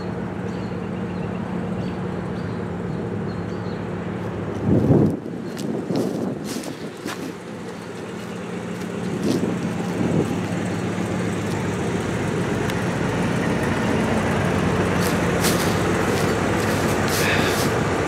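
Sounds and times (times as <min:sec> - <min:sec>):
motorhome engine humming: 0:00.0 - 0:18.0.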